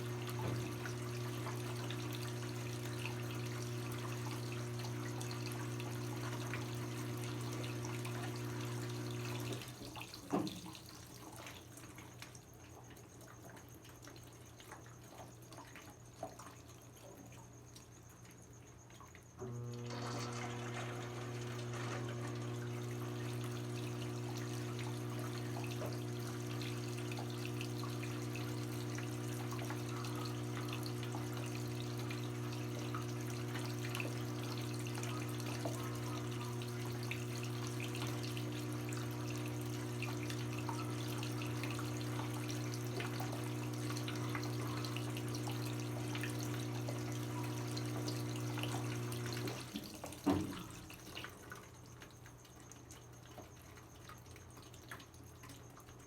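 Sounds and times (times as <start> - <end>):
washing machine humming: 0.0 - 56.0
water rushing in washing machine: 0.0 - 56.0.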